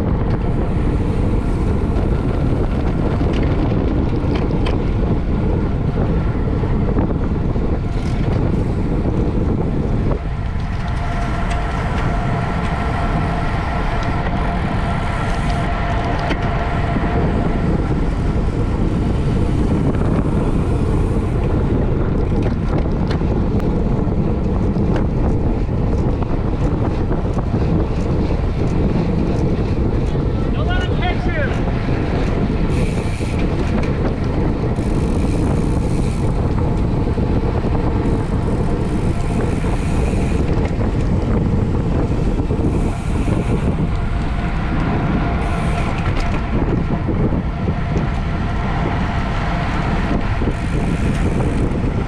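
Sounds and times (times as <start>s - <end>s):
road and tyre rumble: 0.0s - 52.0s
wind buffeting microphone: 0.0s - 52.0s.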